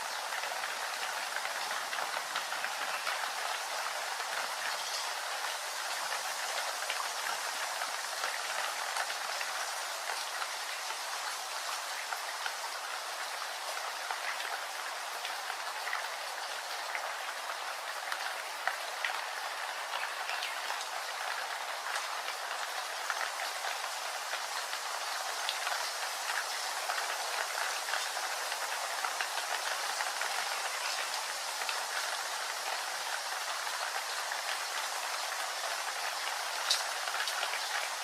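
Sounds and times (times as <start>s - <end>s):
raindrops ticking close by: 0.0s - 38.0s
steady rain hiss: 0.0s - 38.0s.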